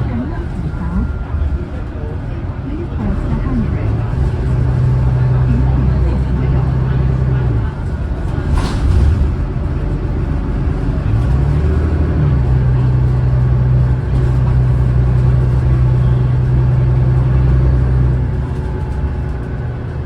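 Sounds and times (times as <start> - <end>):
bus diesel engine accelerating: 0.0 - 20.0.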